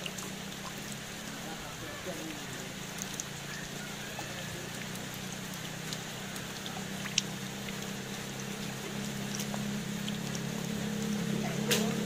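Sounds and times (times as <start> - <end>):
heavy rain on puddles: 0.0 - 12.0
water running over gravel: 0.0 - 12.0.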